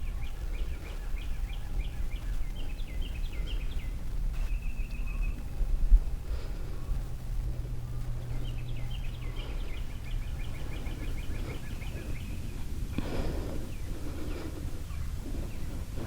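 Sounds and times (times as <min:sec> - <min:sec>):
low outdoor rumble: 0:00.0 - 0:16.0
rustling noise: 0:00.0 - 0:16.0.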